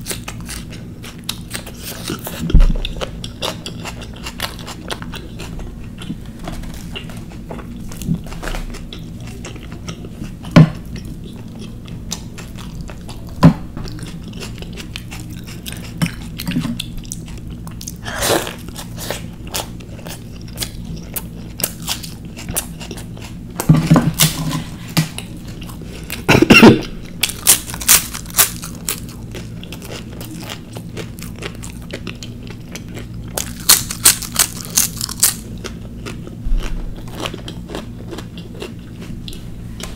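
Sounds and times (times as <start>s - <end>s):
close chewing and biting: 0.0s - 26.4s, 27.0s - 39.9s.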